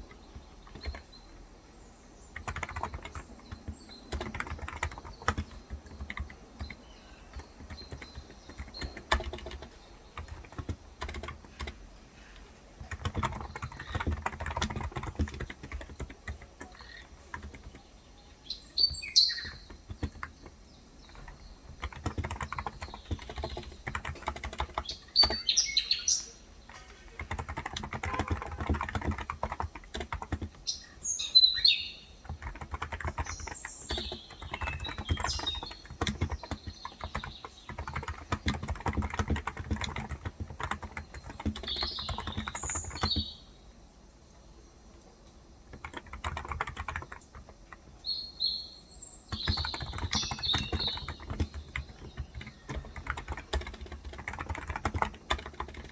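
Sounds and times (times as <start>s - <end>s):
keyboard typing: 0.0s - 1.6s, 2.3s - 25.6s, 26.2s - 31.0s, 32.1s - 43.4s, 45.7s - 48.1s, 49.3s - 55.9s
birds chirping: 0.0s - 55.9s.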